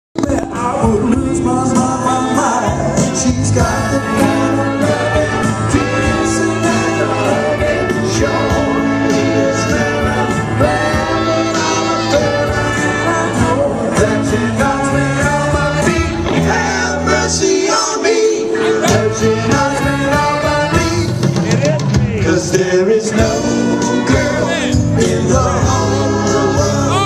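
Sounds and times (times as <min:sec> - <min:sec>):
band playing a song: 0:00.2 - 0:27.0
person singing: 0:00.2 - 0:27.0.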